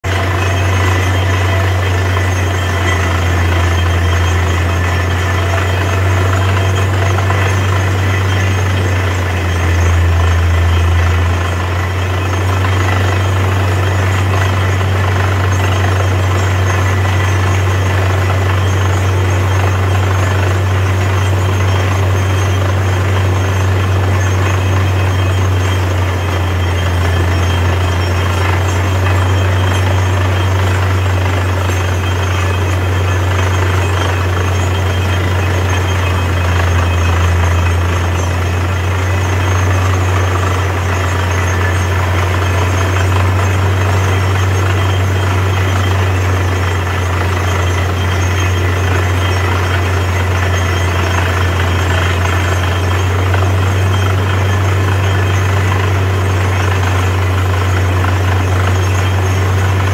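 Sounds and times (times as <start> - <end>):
drilling rig engine drone: 0.0 - 59.9.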